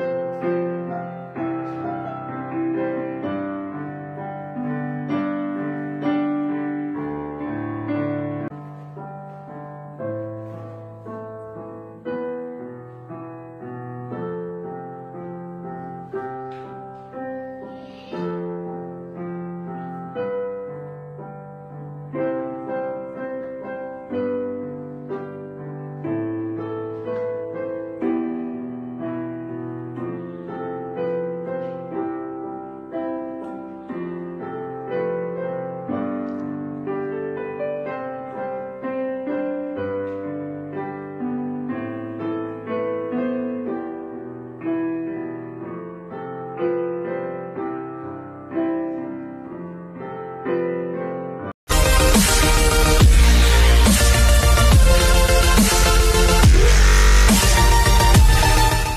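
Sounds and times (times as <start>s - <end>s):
gentle piano music: 0.0s - 51.8s.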